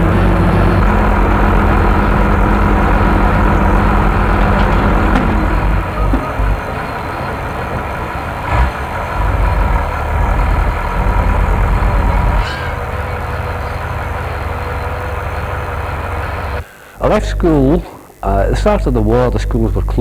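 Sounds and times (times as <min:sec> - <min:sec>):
diesel crane engine rumbling: 0:00.0 - 0:20.0.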